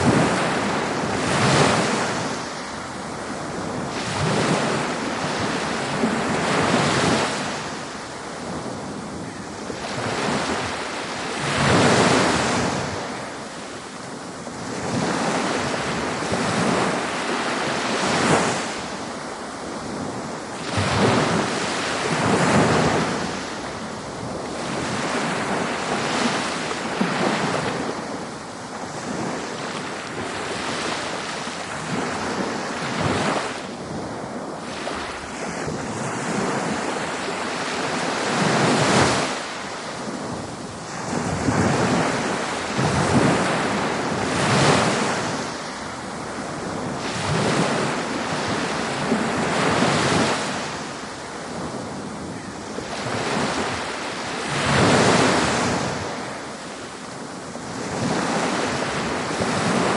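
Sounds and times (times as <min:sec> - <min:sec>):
ocean waves breaking on beach: 0:00.0 - 0:59.9
wind on microphone: 0:00.0 - 0:59.9.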